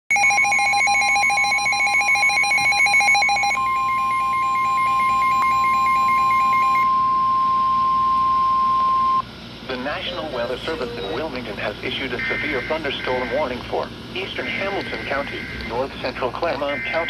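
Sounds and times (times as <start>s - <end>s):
steady warning alarm tone: 0.1s - 17.0s.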